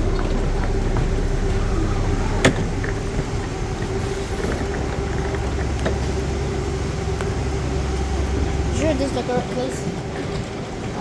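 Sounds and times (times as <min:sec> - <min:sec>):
bus engine rumbling: 0:00.0 - 0:11.0.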